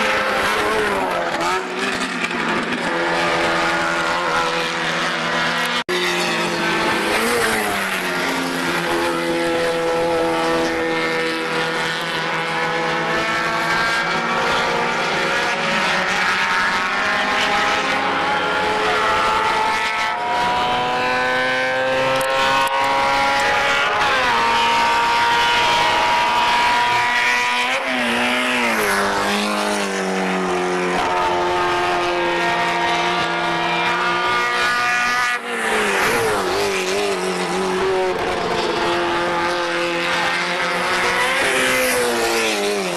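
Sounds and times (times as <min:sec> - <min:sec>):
racing car engines at high revs: 0:00.0 - 0:42.9.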